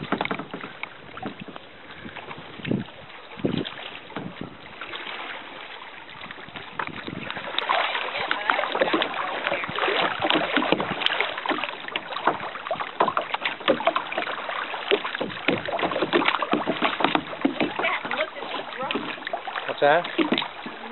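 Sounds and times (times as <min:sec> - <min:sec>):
water splashing against kayak hull: 0:00.0 - 0:20.9.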